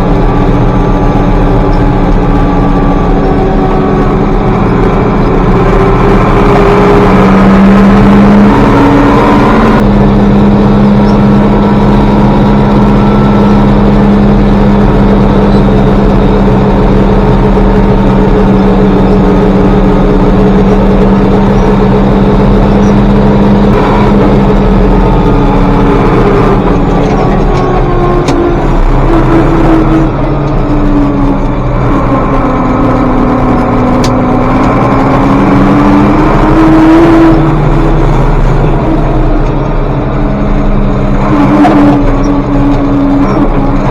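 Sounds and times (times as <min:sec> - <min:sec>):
tractor engine under load: 0:00.0 - 0:43.9.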